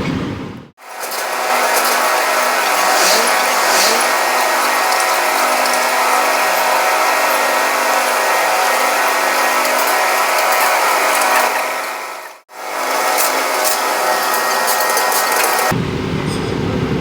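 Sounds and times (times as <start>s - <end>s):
heavy machinery whirring: 0.0s - 17.0s.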